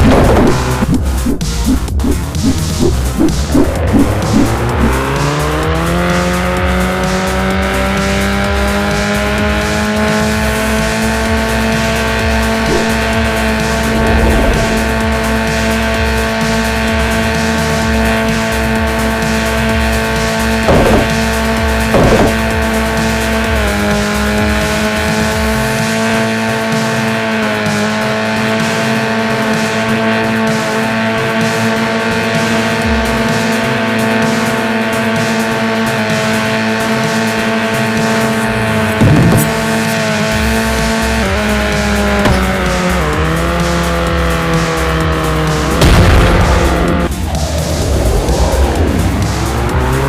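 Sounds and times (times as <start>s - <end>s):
race car engine revving: 0.0s - 50.0s.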